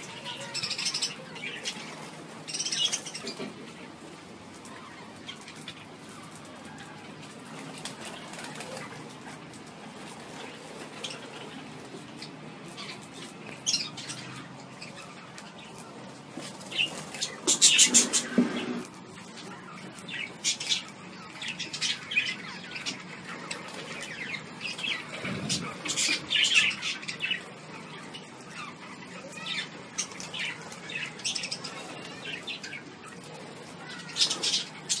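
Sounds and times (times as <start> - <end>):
budgerigars chirping and chattering: 0.0 - 3.9, 4.6 - 35.0.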